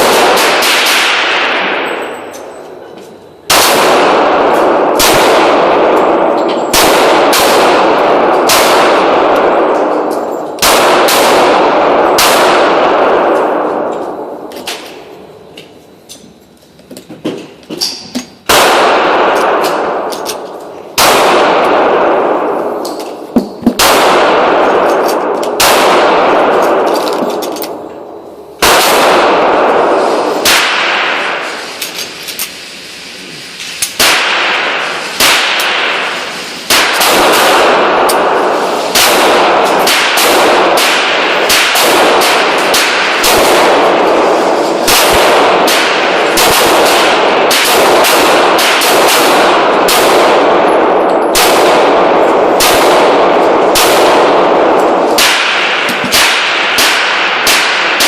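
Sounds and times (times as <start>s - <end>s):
pistol gunshots with echo: 0.0s - 15.5s, 18.4s - 32.2s, 33.9s - 58.0s.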